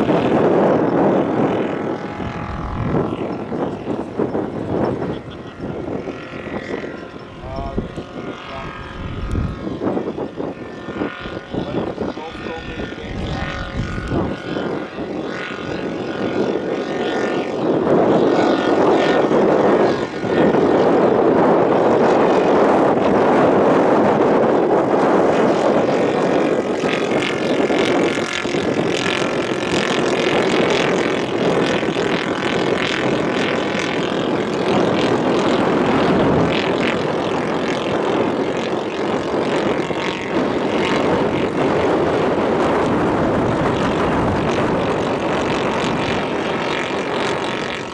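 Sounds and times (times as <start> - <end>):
model aeroplane engine and propeller: 0.0 - 47.9.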